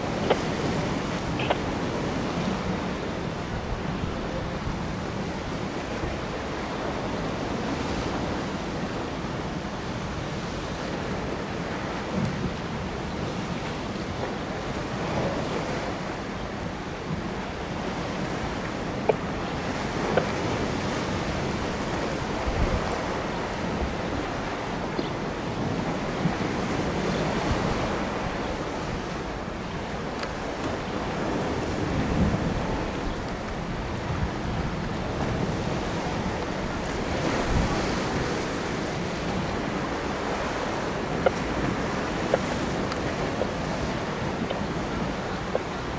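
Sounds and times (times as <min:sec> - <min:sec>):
waves lapping: 0:00.0 - 0:45.9
wind buffeting microphone: 0:00.0 - 0:45.9.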